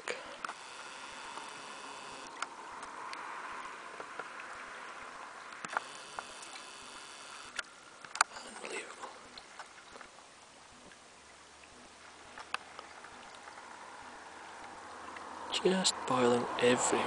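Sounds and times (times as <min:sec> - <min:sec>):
steady sea wash: 0:00.0 - 0:10.4, 0:12.1 - 0:17.0
fish splashing at water surface: 0:00.0 - 0:16.2.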